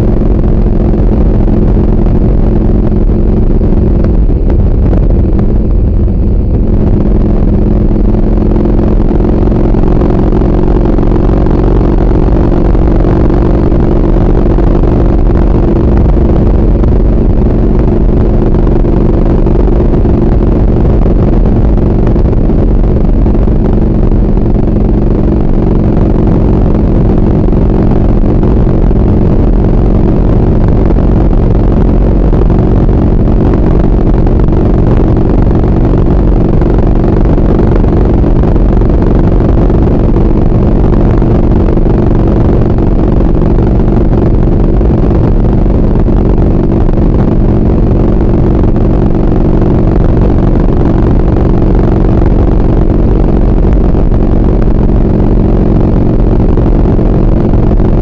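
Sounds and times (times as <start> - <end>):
motorcycle engine cruising: 0.0 - 58.0
wind and road noise: 0.0 - 58.0.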